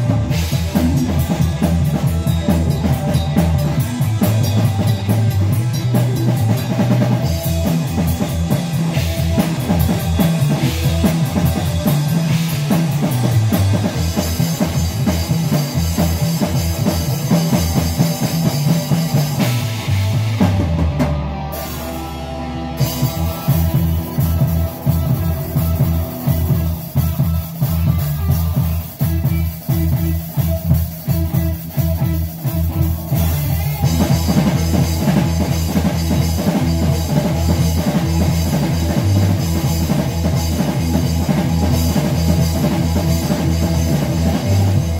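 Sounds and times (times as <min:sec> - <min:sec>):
drum kit: 0:00.0 - 0:44.9
electric bass: 0:00.0 - 0:44.9
electric guitar: 0:00.0 - 0:44.9.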